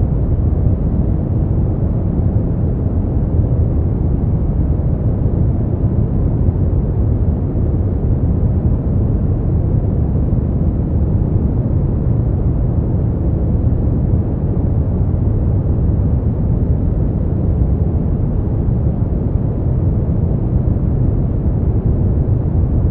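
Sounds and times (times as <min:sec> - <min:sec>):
deep muffled white noise: 0:00.0 - 0:22.9.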